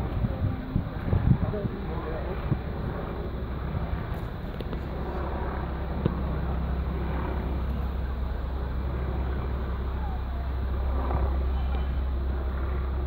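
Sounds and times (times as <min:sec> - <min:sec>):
low engine rumble: 0:00.0 - 0:13.0
outdoor noise: 0:00.0 - 0:13.0.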